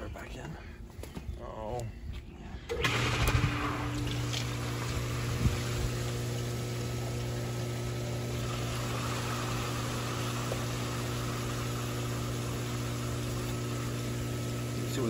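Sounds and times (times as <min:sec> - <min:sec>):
pump motor humming: 0:02.7 - 0:15.0
water rushing through pipes: 0:02.7 - 0:15.0.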